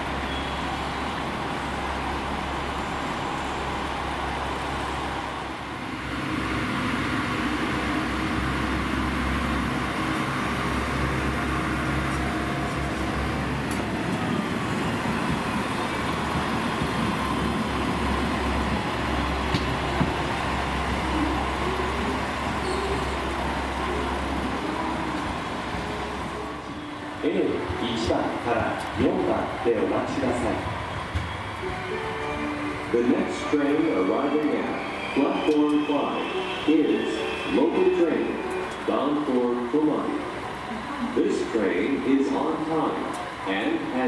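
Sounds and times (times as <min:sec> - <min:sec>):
diesel railcar engine rumble: 0:00.0 - 0:44.0.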